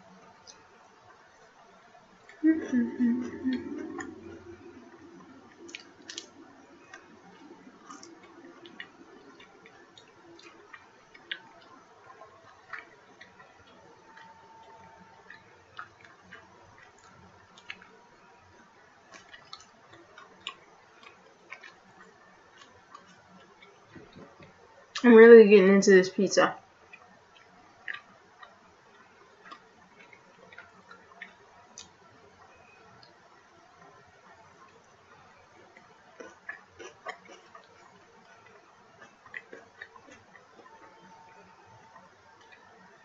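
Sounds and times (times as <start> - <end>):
chewing mouth noise: 2.2 - 18.5, 19.1 - 25.0, 26.9 - 33.2, 33.8 - 42.7.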